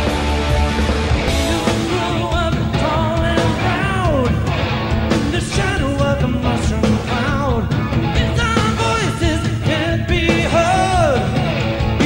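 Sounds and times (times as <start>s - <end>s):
bass guitar: 0.0s - 12.0s
drum kit: 0.0s - 12.0s
electric guitars: 0.0s - 12.0s
person singing: 1.3s - 11.6s.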